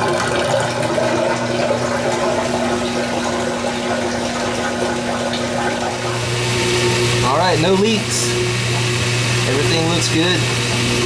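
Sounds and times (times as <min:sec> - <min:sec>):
drain pump humming: 0:00.0 - 0:11.0
water rushing through hose: 0:00.0 - 0:11.0.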